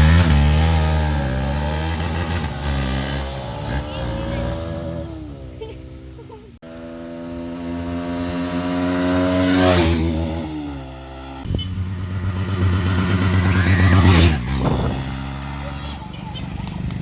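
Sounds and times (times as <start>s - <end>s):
motorcycle passing at high revs: 0.0s - 17.0s.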